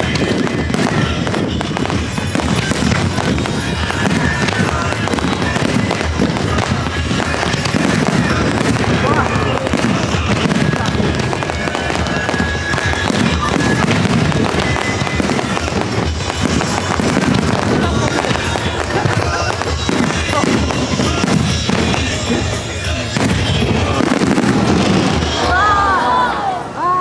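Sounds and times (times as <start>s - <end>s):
music: 0.0s - 26.0s
fireworks bursting and crackling: 0.0s - 27.0s.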